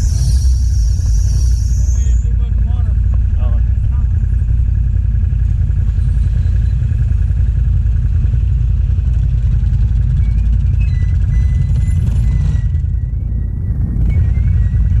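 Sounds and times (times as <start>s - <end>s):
atv engines low rumble: 0.0s - 15.0s
vehicles idling past: 0.0s - 15.0s.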